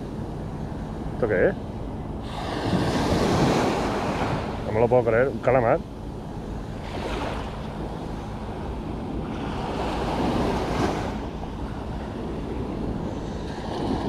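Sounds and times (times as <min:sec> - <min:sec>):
sea surf washing in: 0:00.0 - 0:14.0
wind buffeting microphone: 0:00.0 - 0:14.0.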